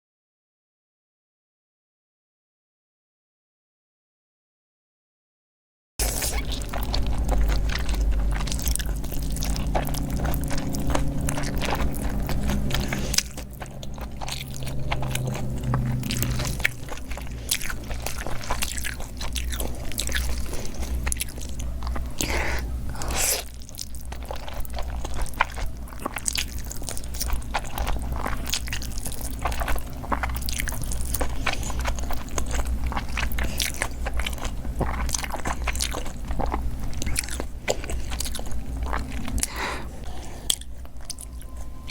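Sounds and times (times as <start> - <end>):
biting and chewing: 6.0 - 41.9.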